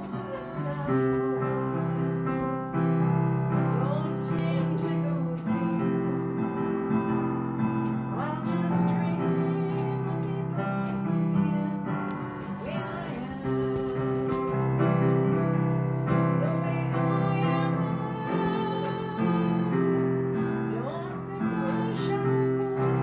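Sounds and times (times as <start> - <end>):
keyboard melody over chords: 0.0 - 23.0.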